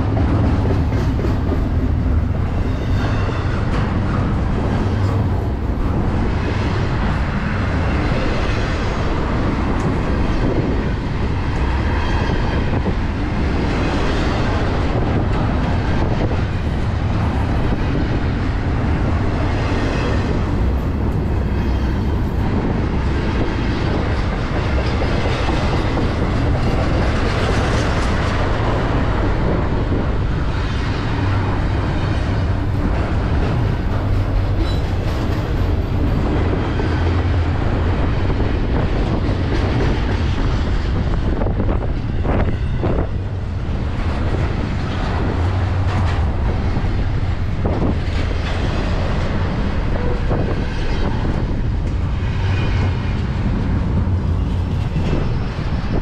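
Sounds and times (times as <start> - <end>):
freight train wheels rumbling: 0.0 - 56.0
train cars clicking and clanking: 0.0 - 56.0.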